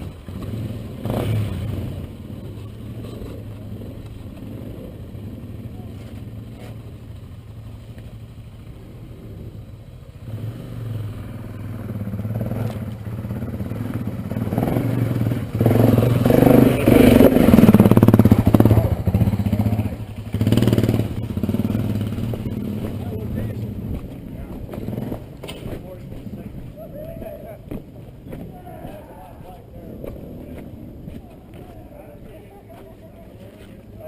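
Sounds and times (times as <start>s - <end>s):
motorcycle engine under throttle: 0.0s - 32.9s.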